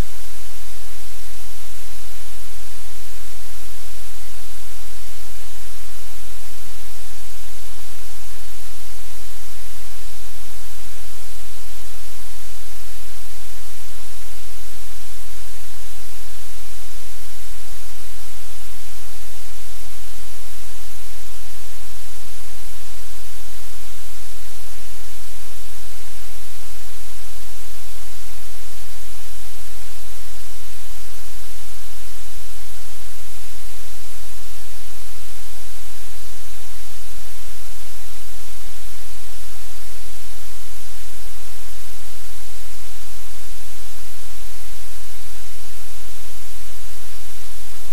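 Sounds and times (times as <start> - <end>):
loud steady static hiss: 0.0 - 47.9.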